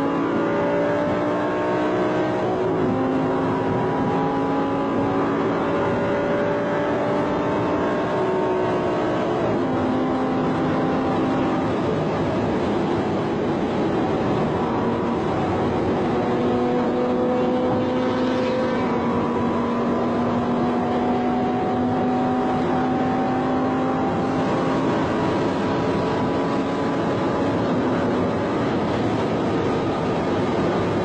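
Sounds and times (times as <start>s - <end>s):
vehicle engine at high revs: 0.0s - 31.0s.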